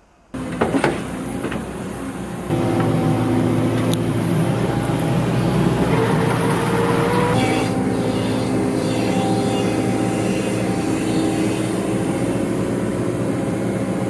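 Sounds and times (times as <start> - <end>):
hydraulic whine: 0.0 - 14.0
excavator diesel engine running: 0.4 - 14.0.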